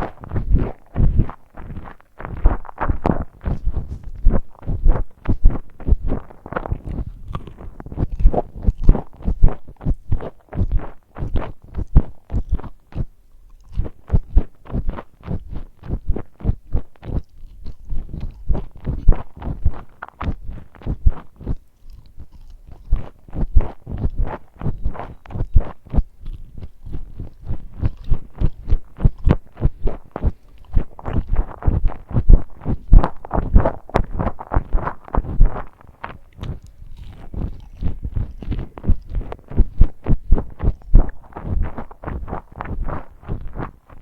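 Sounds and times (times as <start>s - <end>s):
chewing and crunching fried food: 0.0s - 44.0s.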